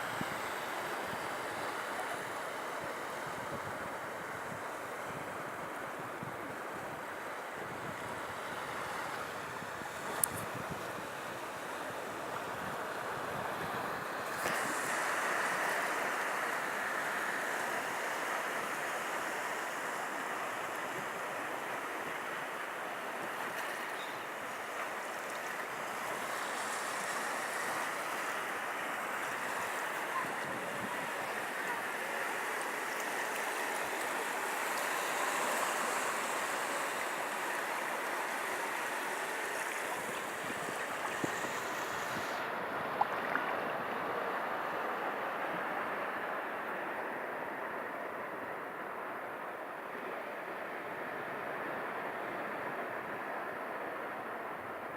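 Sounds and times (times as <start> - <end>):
surf washing onto beach: 0.0 - 54.9.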